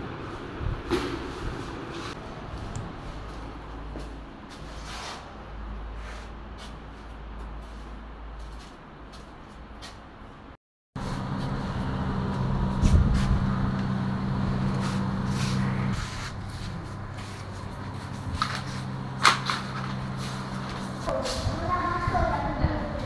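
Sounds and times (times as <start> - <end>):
air conditioner unit humming: 0.0 - 23.0.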